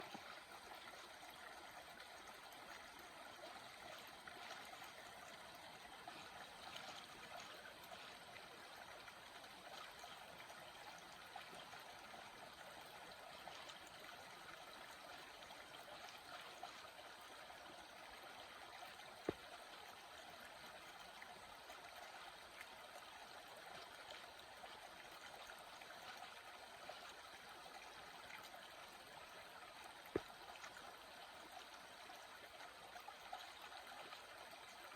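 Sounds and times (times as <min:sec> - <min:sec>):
small stream flowing: 0:00.0 - 0:34.9.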